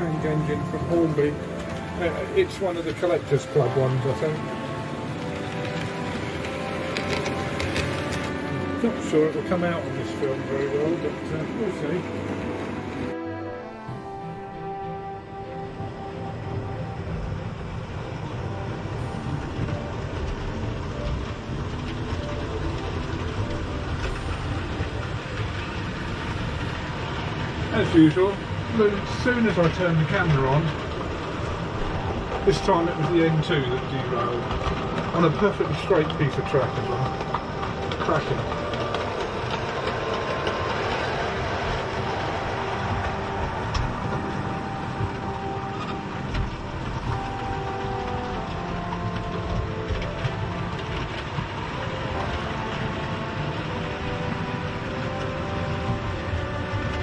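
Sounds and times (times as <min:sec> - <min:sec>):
model train wheels rumbling on rail: 0:00.0 - 0:13.2, 0:13.8 - 0:57.0.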